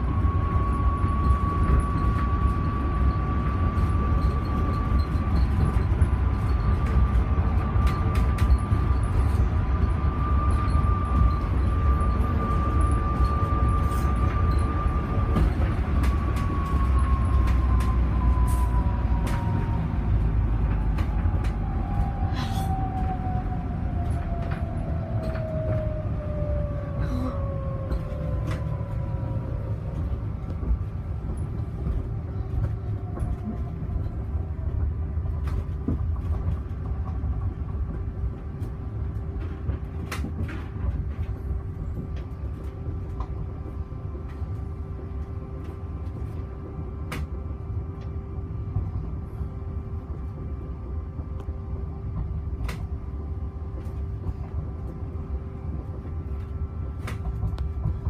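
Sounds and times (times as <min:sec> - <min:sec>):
low rumble of pod riding: 0:00.0 - 0:58.0.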